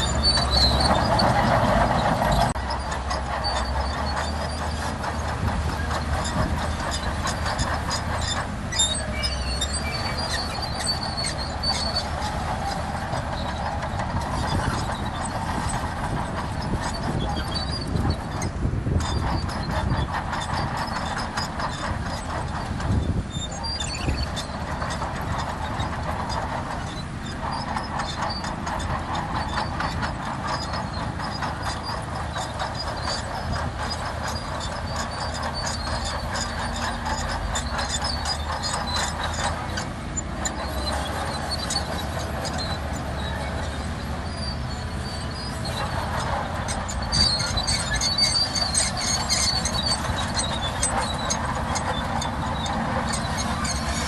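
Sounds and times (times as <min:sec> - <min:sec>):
diesel engine running: 0:00.0 - 0:54.0
steel tracks clanking and squealing: 0:00.0 - 0:54.0.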